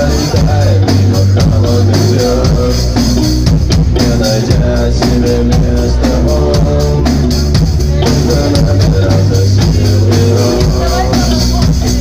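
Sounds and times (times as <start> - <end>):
person singing: 0.0 - 12.0
rock band playing: 0.0 - 12.0.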